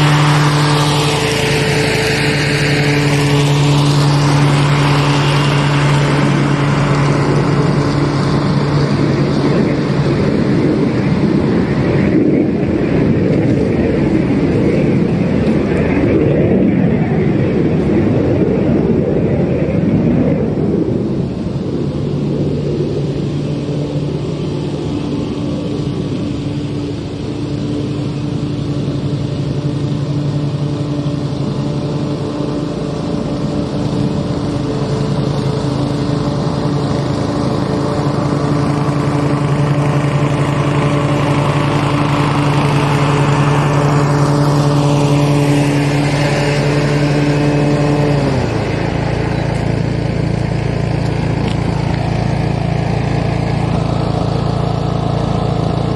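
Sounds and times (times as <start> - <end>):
lawn mower cutting grass: 0.0 - 55.9.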